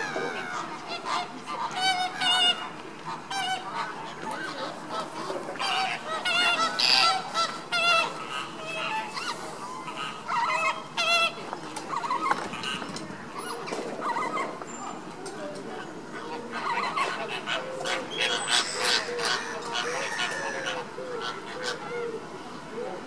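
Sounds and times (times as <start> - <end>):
flamingos honking: 0.0 - 14.6, 16.0 - 22.2.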